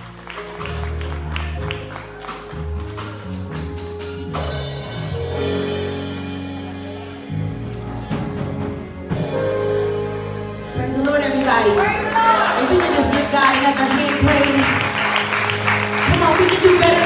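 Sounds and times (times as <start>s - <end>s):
bass: 0.0s - 17.0s
keyboard chords: 0.0s - 17.0s.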